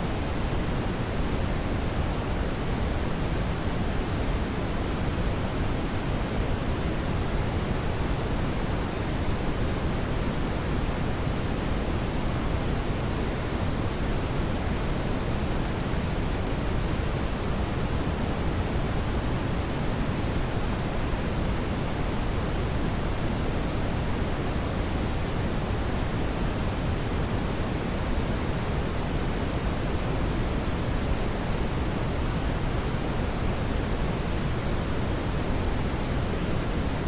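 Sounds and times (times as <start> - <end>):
brown noise hiss: 0.0 - 37.0.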